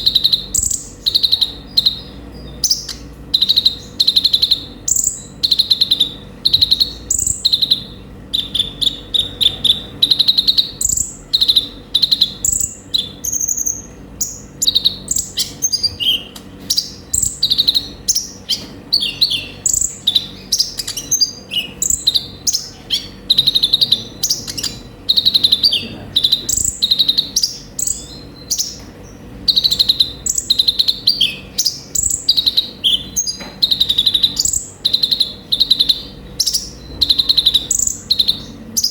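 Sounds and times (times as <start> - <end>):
bird singing rapid trills: 0.0 - 38.9.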